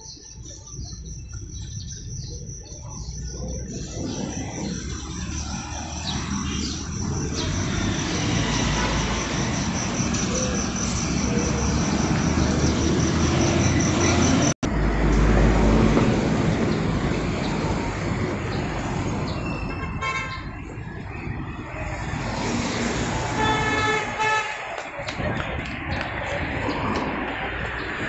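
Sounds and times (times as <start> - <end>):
road traffic rumble: 0.0 - 28.0
bus passing: 3.2 - 28.0.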